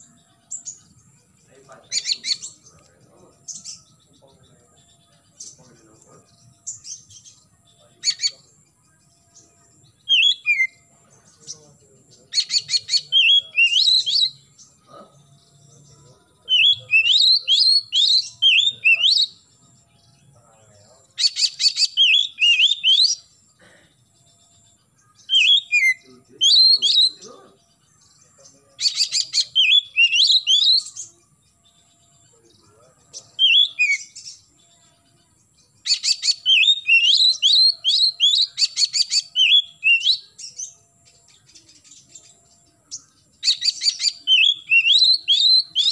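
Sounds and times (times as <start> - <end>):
bird rasping chatter: 0.0 - 8.7, 9.3 - 15.2, 20.5 - 31.2, 31.8 - 45.9
bird singing whistled notes: 0.0 - 45.9.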